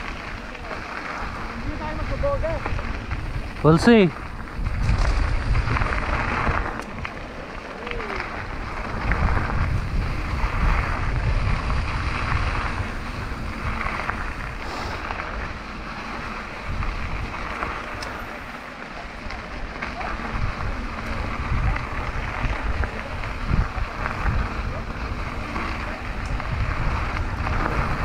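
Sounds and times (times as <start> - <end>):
bike tyres on dirt and gravel: 0.0 - 28.0
wind buffeting microphone: 0.0 - 28.0.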